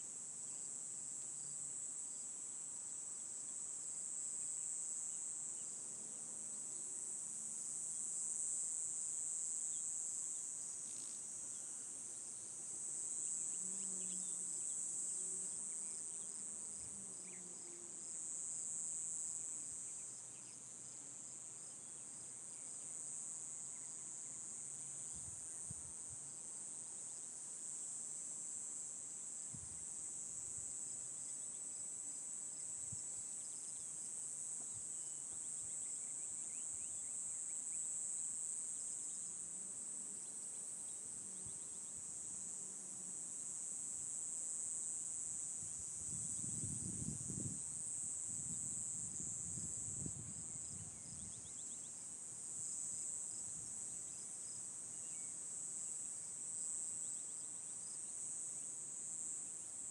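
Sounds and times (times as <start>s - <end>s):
insects trilling: 3.8s - 59.9s.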